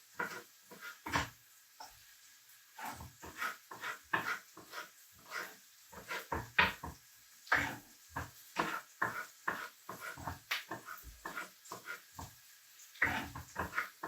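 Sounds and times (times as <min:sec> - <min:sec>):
knife chopping on board: 0:00.2 - 0:01.3, 0:02.8 - 0:12.3, 0:13.0 - 0:14.0.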